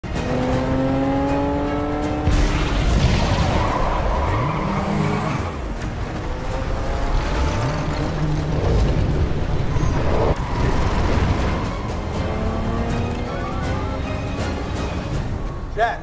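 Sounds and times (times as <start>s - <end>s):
car engine revving: 0.0s - 2.6s, 3.9s - 15.4s
tyre and road noise: 0.0s - 16.0s.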